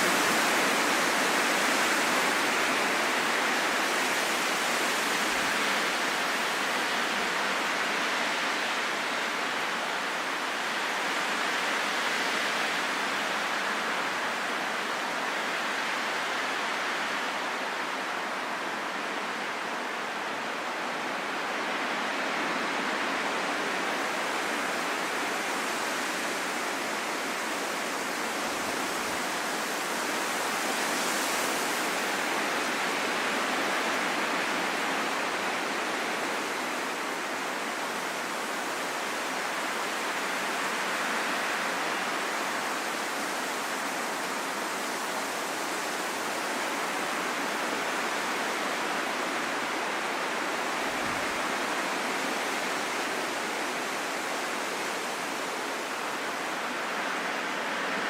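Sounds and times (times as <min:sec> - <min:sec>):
rushing wind: 0:00.0 - 0:58.0.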